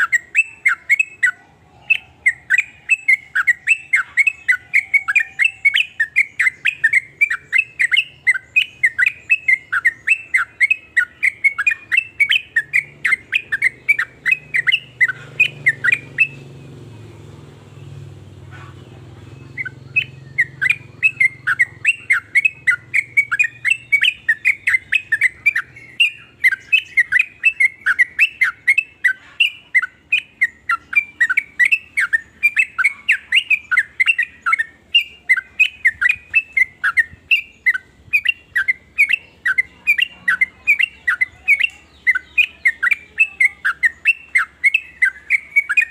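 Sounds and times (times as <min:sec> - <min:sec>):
bird calling in sharp chirps: 0:00.0 - 0:45.9.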